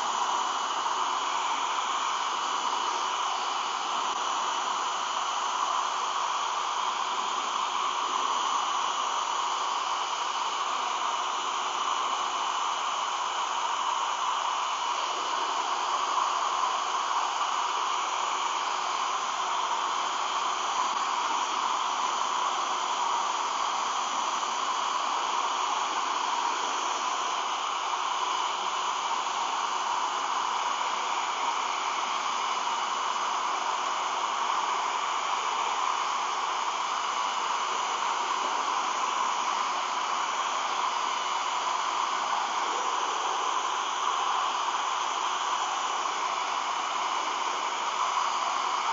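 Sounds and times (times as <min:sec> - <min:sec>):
hair dryer running: 0:00.0 - 0:48.9.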